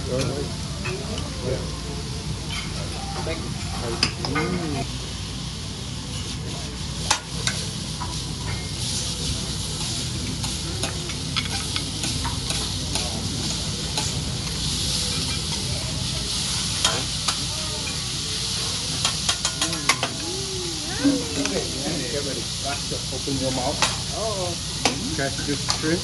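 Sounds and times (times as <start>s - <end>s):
food sizzling on a griddle: 0.0s - 26.0s.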